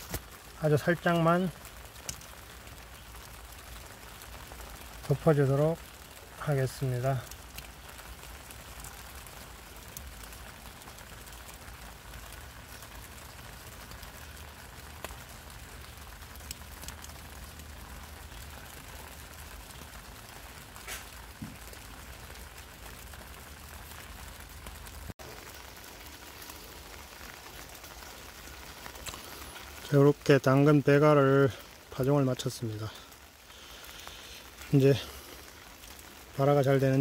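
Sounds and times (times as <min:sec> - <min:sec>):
light rain on plastic film: 0:00.0 - 0:37.0.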